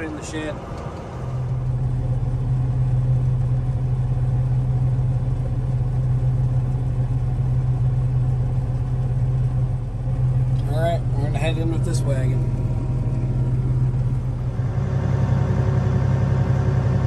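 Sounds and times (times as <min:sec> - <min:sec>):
combine harvester engine hum: 0:00.0 - 0:17.0.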